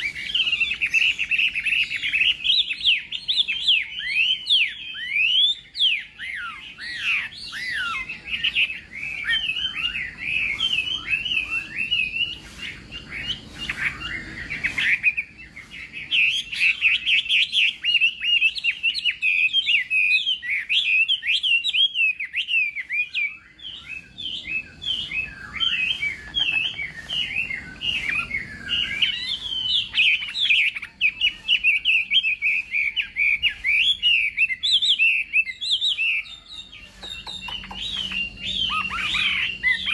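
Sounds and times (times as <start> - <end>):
bird singing rapid whistled song: 0.0 - 39.9.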